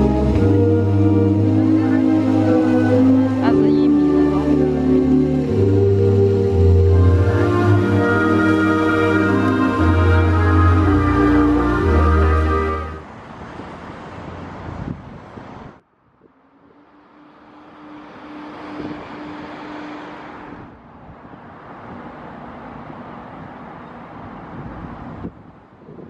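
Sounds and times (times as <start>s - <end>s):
vehicle engine hum: 0.0s - 23.8s
road traffic noise: 0.0s - 26.0s.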